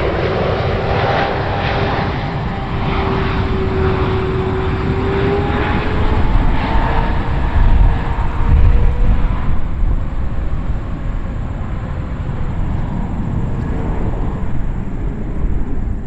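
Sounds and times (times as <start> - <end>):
jet engine whine: 0.0 - 16.0
low rumble of jet: 0.0 - 16.0.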